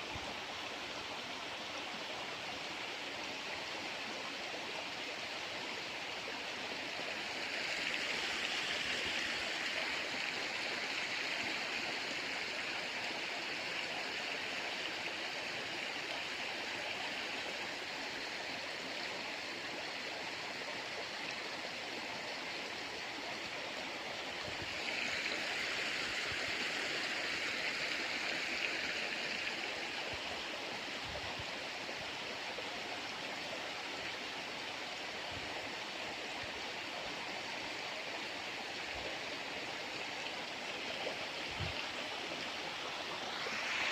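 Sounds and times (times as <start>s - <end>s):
river water rushing: 0.1s - 43.9s.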